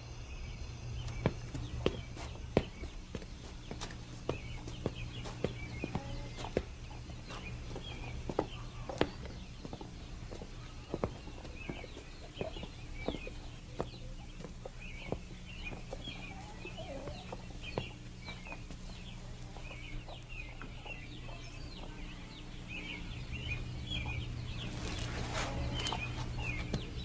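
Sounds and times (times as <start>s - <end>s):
chickens clucking: 1.0s - 27.0s.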